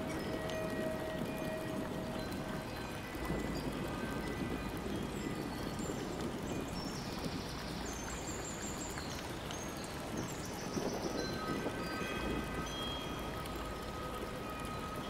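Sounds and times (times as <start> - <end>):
wind chimes ringing: 0.0 - 7.3, 9.0 - 15.0
running water: 0.0 - 15.0.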